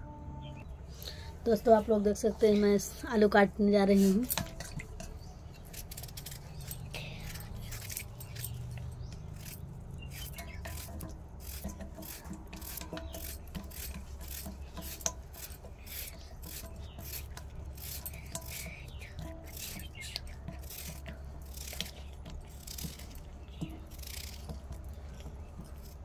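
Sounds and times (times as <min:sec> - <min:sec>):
knife scraping potato: 0:04.0 - 0:26.0.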